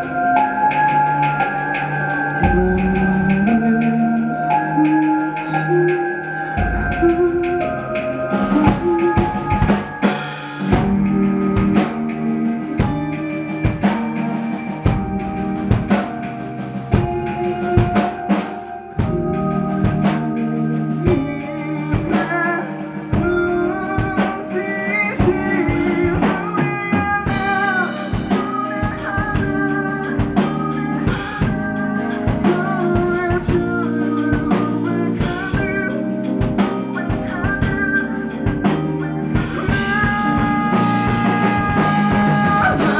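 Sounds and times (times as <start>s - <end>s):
drum kit beat: 0.0s - 42.9s
live band playing: 0.0s - 42.9s
wavering melody line: 0.0s - 42.9s.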